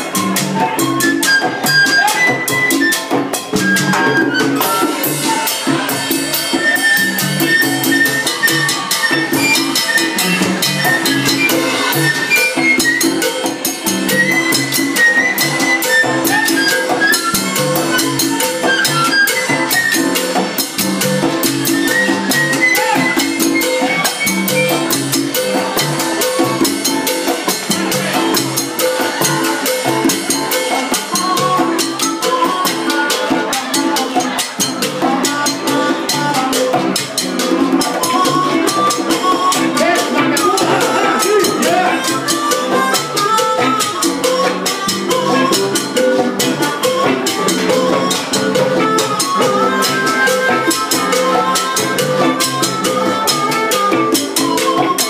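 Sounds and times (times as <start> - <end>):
drum kit and percussion: 0.0 - 55.0
lead melody line: 0.0 - 55.0
live salsa band: 0.0 - 55.0.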